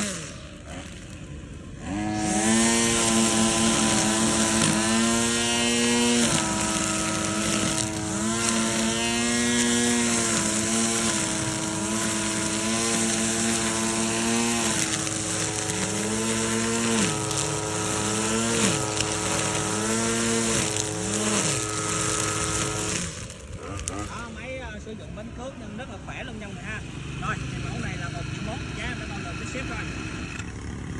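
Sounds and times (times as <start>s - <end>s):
brush cutter engine revving: 0.0s - 30.9s.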